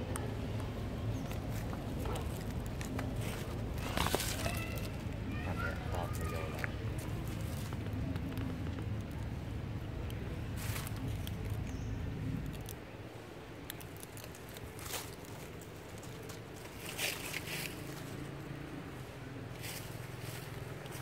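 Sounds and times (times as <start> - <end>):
dry leaves rustling: 0.7 - 11.7, 12.4 - 21.0.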